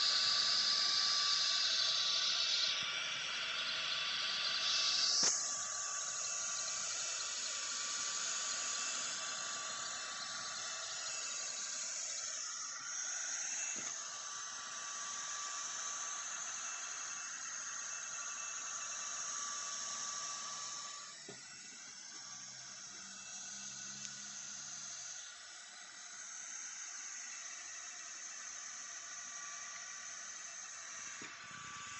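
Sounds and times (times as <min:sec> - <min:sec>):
thin steady whine: 0:00.0 - 0:31.9.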